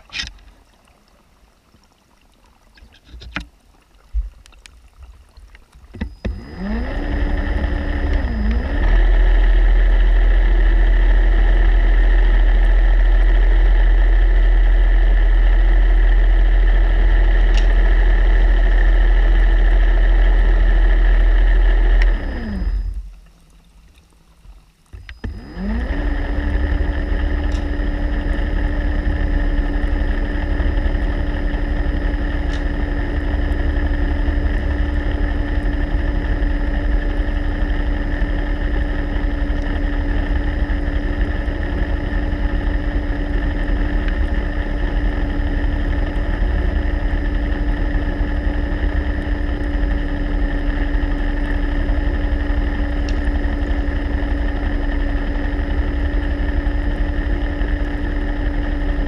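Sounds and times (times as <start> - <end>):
underwater motor drone: 0.0 - 59.0.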